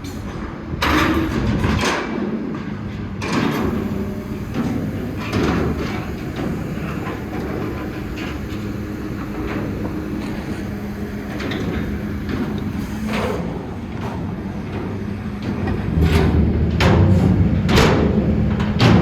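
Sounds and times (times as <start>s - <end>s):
construction rumble: 3.4s - 19.0s
low machine hum: 3.5s - 19.0s
loud noisy surges: 3.6s - 19.0s.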